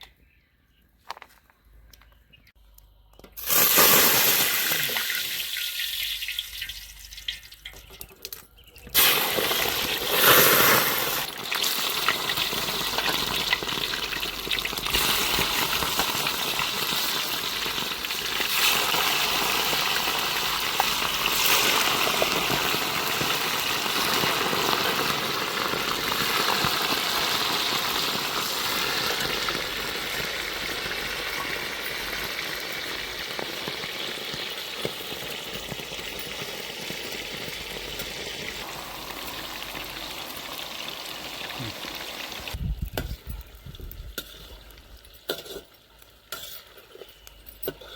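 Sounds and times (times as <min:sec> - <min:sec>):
food sizzling in hot oil: 0:03.4 - 0:07.8, 0:08.9 - 0:46.8.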